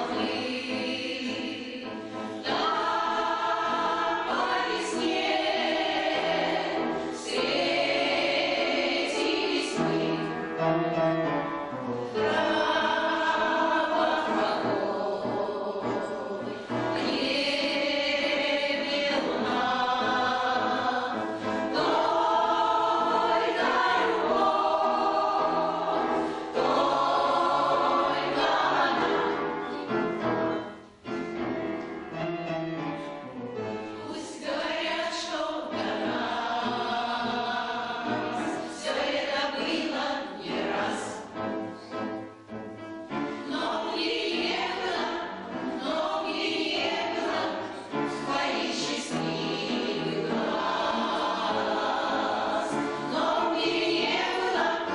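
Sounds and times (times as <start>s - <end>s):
choir singing: 0.0s - 31.5s, 33.6s - 54.9s.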